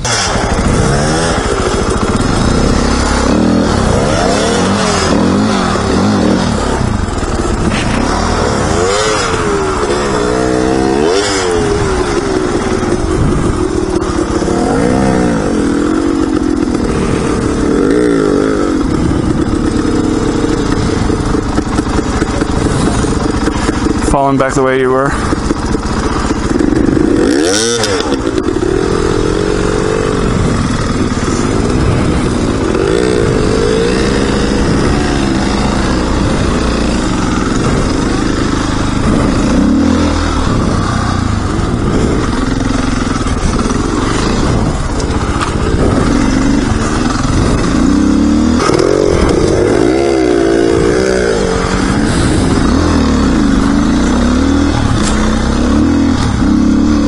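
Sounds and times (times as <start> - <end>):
dirt bike engine revving: 0.0 - 57.0
rush of riding: 0.0 - 57.0.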